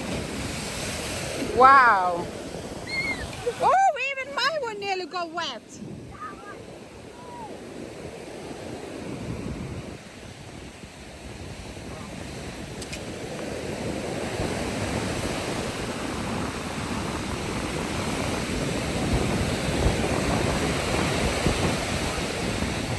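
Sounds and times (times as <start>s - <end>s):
ocean surf washing ashore: 0.0s - 22.9s.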